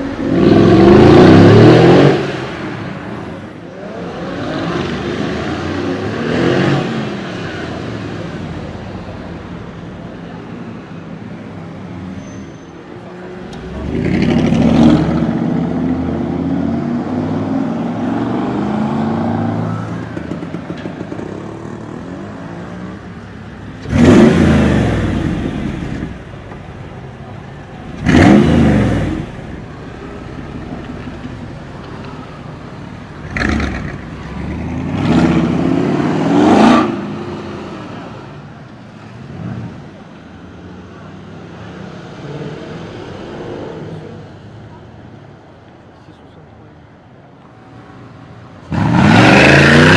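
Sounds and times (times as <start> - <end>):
car engines revving: 0.0 - 49.9.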